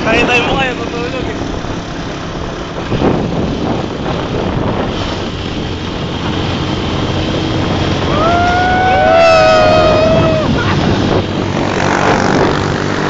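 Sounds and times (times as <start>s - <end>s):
motor tricycle engine drone: 0.0s - 13.0s
road noise: 0.0s - 13.0s
rushing wind: 0.0s - 13.0s.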